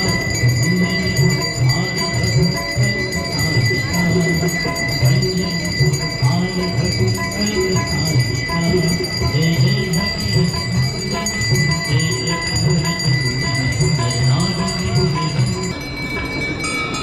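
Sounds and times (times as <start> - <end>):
hand bells ringing: 0.0 - 17.0.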